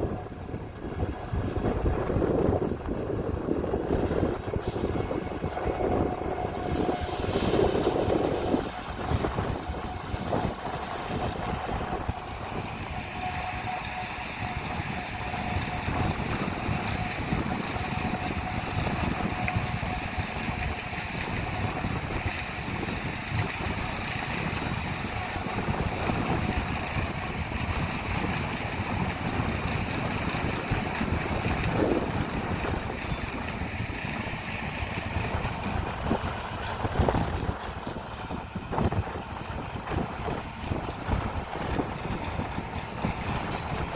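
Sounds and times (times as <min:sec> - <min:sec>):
faint steady whine: 0:00.0 - 0:43.9
harvest machinery running: 0:00.0 - 0:43.9
wind buffeting microphone: 0:00.0 - 0:43.9.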